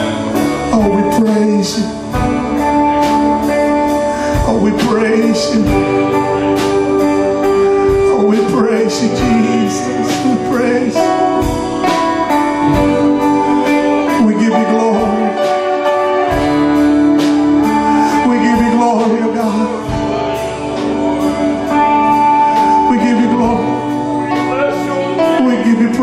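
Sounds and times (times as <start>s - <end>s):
drums: 0.0s - 26.0s
electric guitar: 0.0s - 26.0s
keyboard: 0.0s - 26.0s
lead singer holding long notes: 0.0s - 26.0s.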